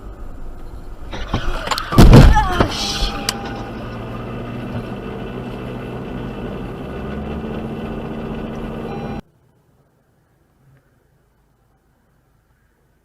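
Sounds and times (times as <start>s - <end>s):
car engine humming: 0.0s - 12.4s.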